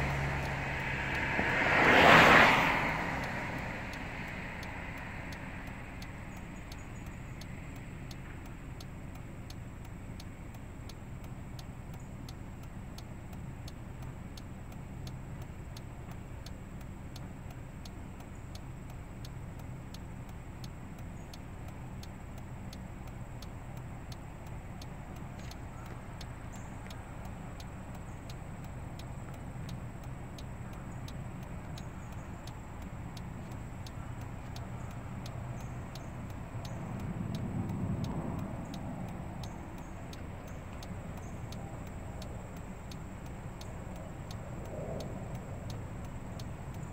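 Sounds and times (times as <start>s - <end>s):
faint even ticking: 0.0s - 46.9s.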